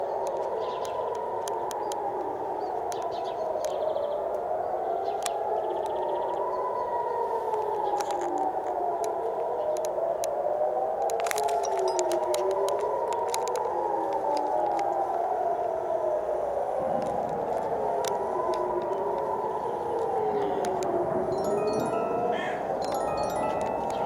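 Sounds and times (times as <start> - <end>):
air raid sirens wailing: 0.0 - 24.0.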